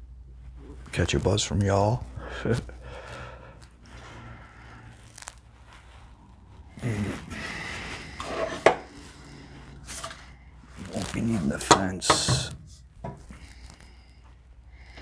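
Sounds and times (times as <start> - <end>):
rustling and scraping: 0.0 - 15.0.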